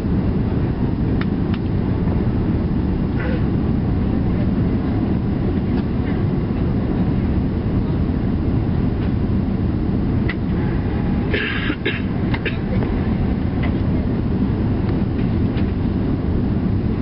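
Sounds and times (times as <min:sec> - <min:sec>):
airliner engines roaring in cabin: 0:00.0 - 0:17.0.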